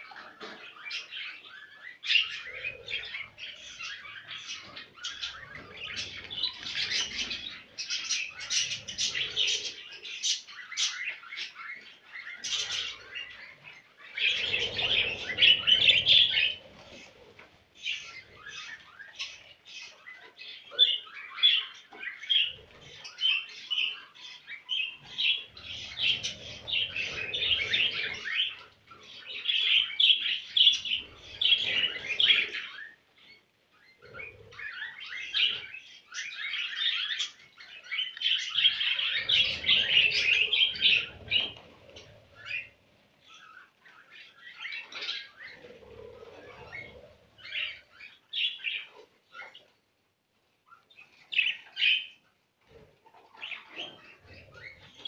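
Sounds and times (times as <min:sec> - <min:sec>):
budgerigars warbling and chattering: 0:00.0 - 0:49.7, 0:50.6 - 0:55.0.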